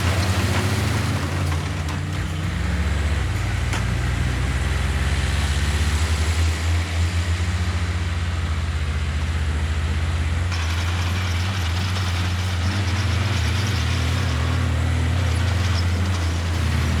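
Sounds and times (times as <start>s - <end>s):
heavy diesel engine running: 0.0s - 8.6s, 9.2s - 17.0s.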